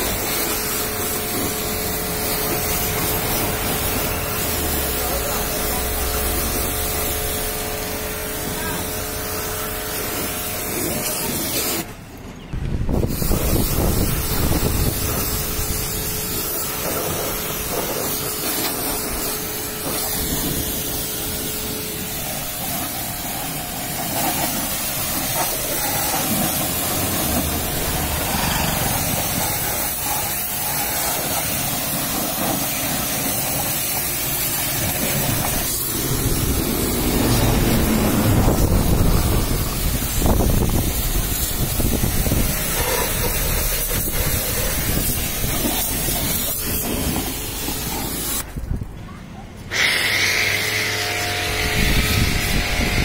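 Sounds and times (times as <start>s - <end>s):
pressure washer spray hissing: 0.0s - 12.0s, 12.9s - 48.6s, 49.7s - 53.0s
pressure washer hum: 0.0s - 48.6s, 49.6s - 53.0s.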